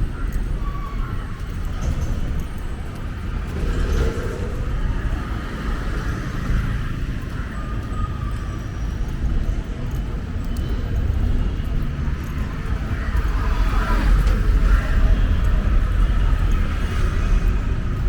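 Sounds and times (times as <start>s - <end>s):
city road traffic rumble: 0.0s - 18.0s.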